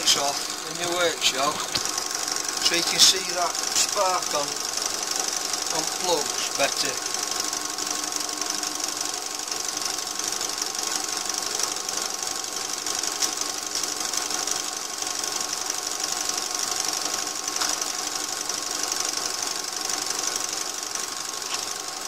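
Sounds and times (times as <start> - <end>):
fast even ticking: 0.0 - 21.1
lathe running steadily: 0.0 - 22.0.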